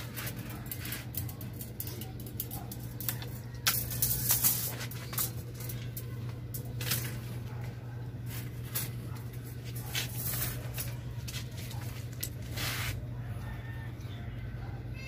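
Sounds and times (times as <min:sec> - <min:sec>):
branches and wire rustling scraping: 0:00.0 - 0:13.9
steady low hum: 0:00.0 - 0:15.0.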